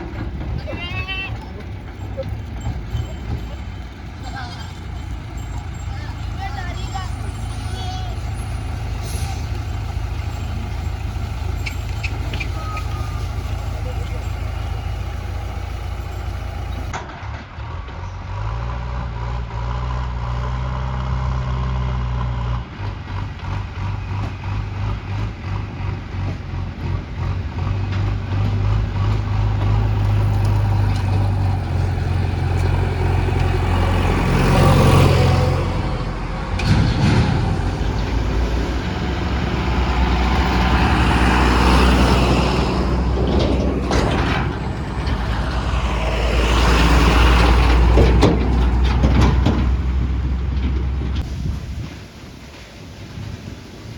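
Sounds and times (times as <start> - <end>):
diesel engine working: 0.0 - 53.9.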